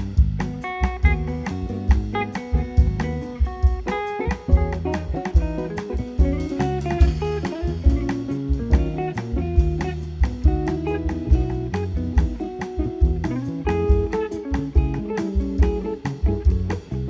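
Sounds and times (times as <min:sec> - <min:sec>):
drum and cymbal strokes: 0:00.0 - 0:17.0
live band music: 0:00.0 - 0:17.0.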